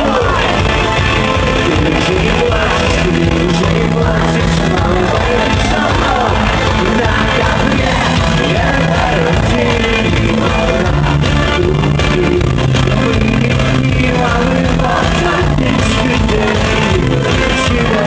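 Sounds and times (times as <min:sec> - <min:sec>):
person singing: 0:00.0 - 0:18.0
rock band playing live: 0:00.0 - 0:18.0.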